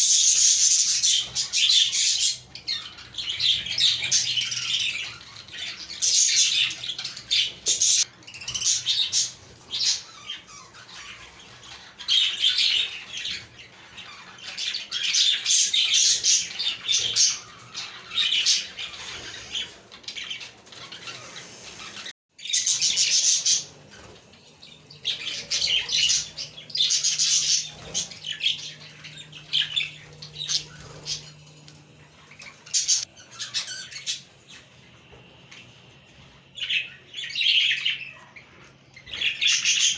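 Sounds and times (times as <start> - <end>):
budgerigars chirping and squawking: 0.0 - 35.0, 35.6 - 39.9.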